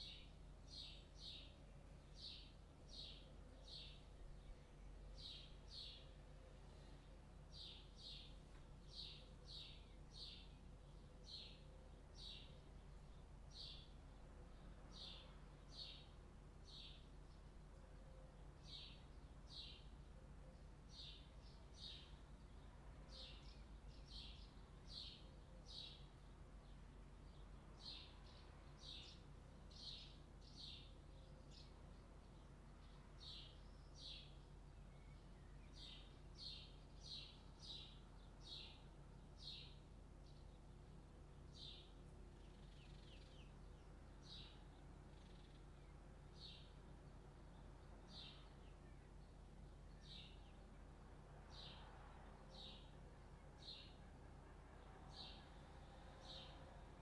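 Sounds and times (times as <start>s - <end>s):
faint bird chirping: 0.0s - 57.0s
faint low hum: 0.0s - 57.0s.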